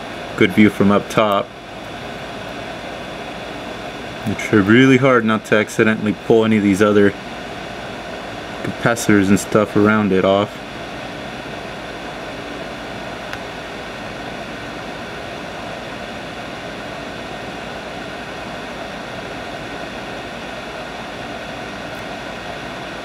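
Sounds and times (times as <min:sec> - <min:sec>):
hot air blower: 0:00.0 - 0:23.0.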